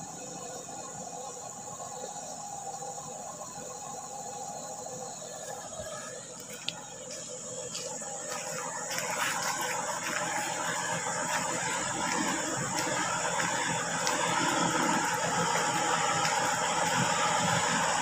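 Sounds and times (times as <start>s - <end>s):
distant truck engine running: 0.0s - 18.0s
insect chorus: 0.0s - 18.0s.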